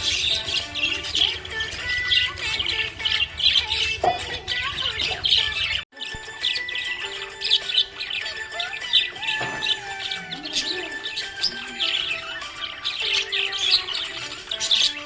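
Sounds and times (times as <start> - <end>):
parrots chirping and squawking: 0.0 - 15.0.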